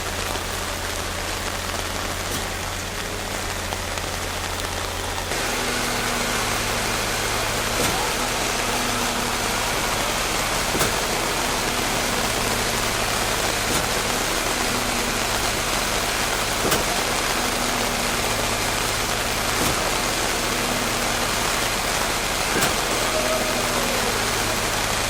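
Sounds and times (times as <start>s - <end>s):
motor humming: 0.0s - 25.0s
steady rain: 0.0s - 25.0s.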